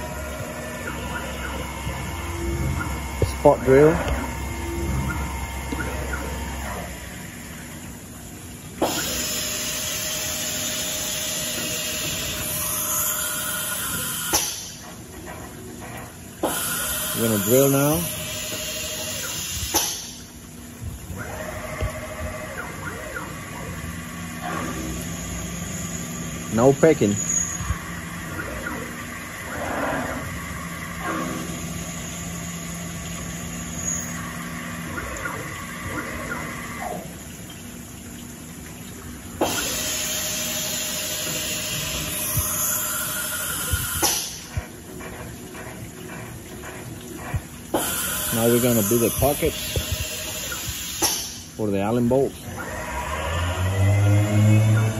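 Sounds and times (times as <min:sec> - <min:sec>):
higher machine whine: 0:00.0 - 0:51.0, 0:51.6 - 0:54.9
hissing machine noise: 0:00.0 - 0:54.9
mill spindle humming: 0:00.0 - 0:54.9.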